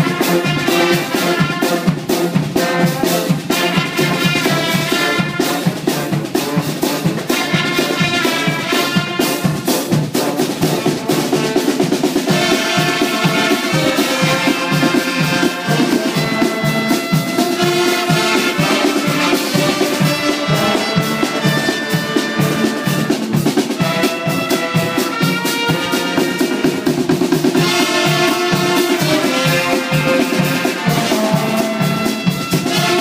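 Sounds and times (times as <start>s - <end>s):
drum kit steady beat: 0.0s - 33.0s
trombone: 0.0s - 33.0s
trumpet: 0.0s - 33.0s.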